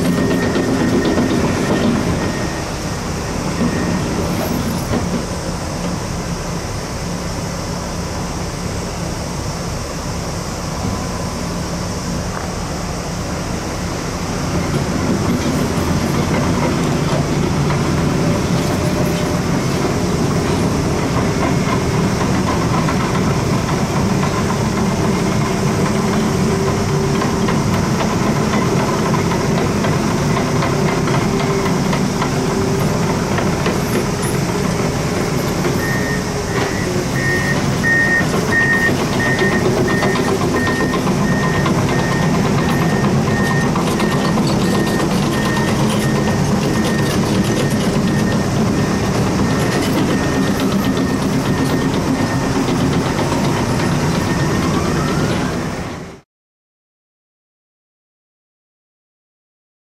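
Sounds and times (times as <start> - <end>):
heavy diesel machine engine drone: 0.0 - 56.2.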